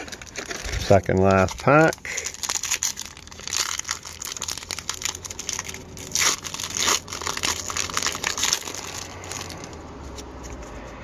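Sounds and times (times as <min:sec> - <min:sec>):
foil wrapper ripping: 0:00.0 - 0:10.2
foil wrapper crinkling: 0:00.0 - 0:10.8.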